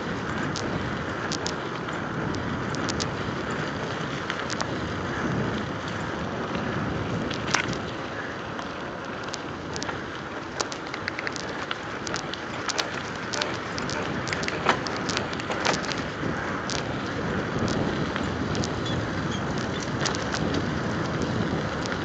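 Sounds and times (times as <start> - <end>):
bike clicks and rattles: 0.0 - 22.0
bike tyres hissing on wet asphalt: 0.0 - 22.0.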